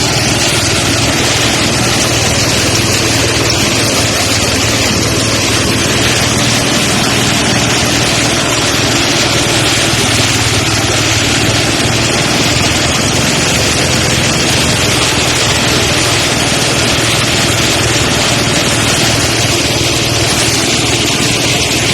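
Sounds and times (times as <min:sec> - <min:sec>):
engine hum: 0:00.0 - 0:21.9
threshing drum rushing: 0:00.0 - 0:21.9.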